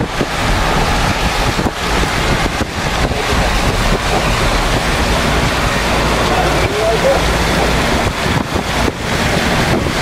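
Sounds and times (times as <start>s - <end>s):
floodwater rushing: 0.0s - 10.0s
wind buffeting microphone: 0.0s - 10.0s.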